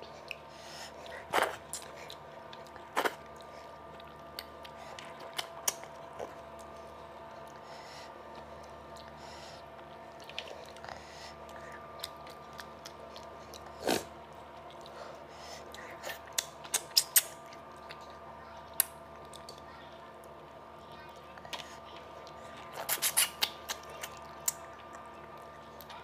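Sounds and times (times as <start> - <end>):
chewing and wet mouth noises: 0.0 - 26.0
faint steady hum: 0.0 - 26.0.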